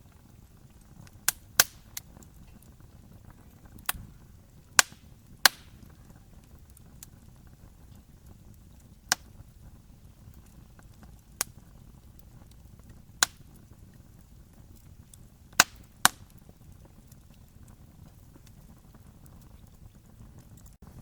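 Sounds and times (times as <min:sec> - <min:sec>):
burning wood popping: 0:00.0 - 0:21.0
campfire crackling: 0:00.0 - 0:21.0.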